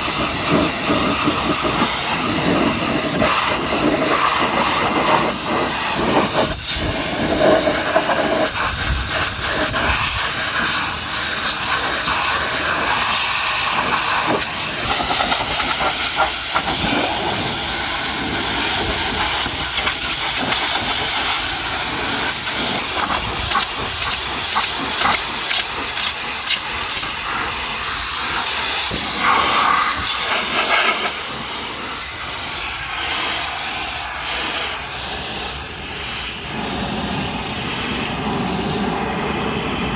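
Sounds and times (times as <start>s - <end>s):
pressure washer spraying: 0.0s - 39.9s.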